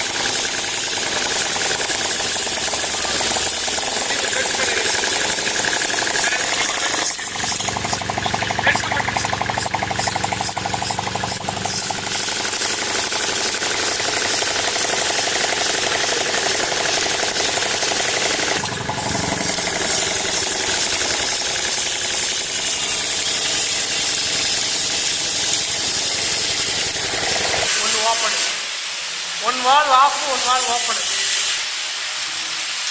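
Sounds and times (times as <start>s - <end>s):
small engine running: 0.0s - 28.6s.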